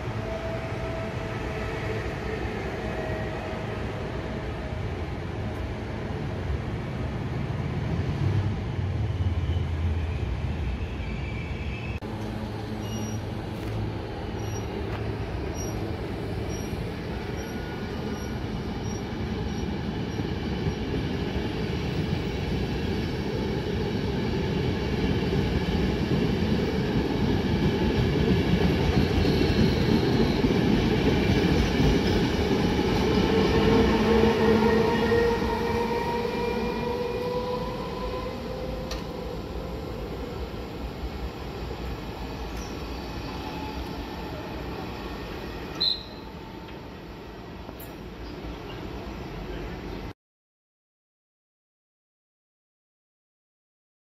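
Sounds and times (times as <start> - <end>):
train wheels rumbling on rails: 0.0 - 49.8
electric locomotive whine: 0.0 - 50.0.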